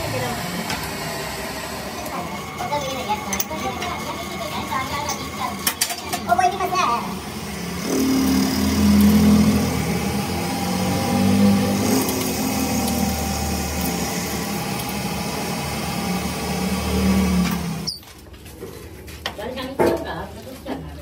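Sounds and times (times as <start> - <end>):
lathe motor and gearbox hum: 0.0 - 18.7.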